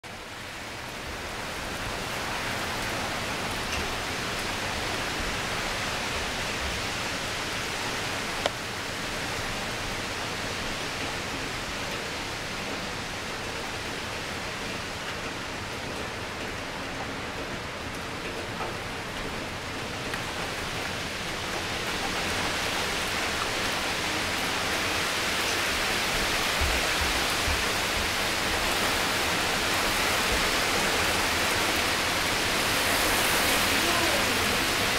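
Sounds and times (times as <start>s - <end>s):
gusting wind: 0.0s - 34.9s
heavy rain falling: 0.0s - 34.9s.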